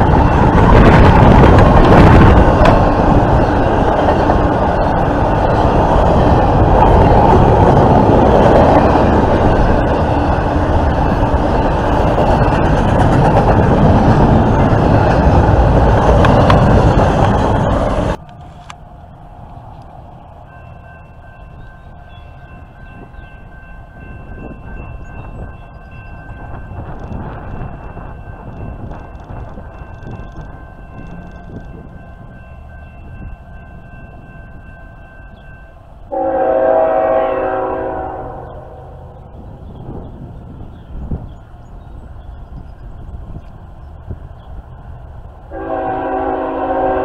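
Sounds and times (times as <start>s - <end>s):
steel train wheels rolling on rail: 0.0s - 47.0s.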